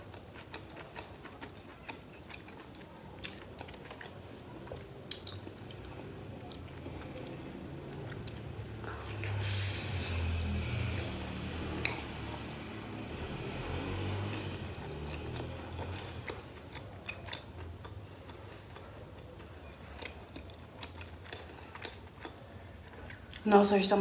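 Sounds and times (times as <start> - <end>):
chewing with mouth closed: 0.0 - 12.6, 14.2 - 23.4.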